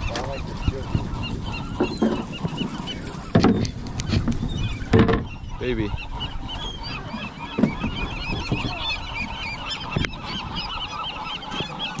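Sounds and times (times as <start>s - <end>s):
deeper bird calls: 0.0s - 12.0s
seabirds squawking: 0.0s - 12.0s.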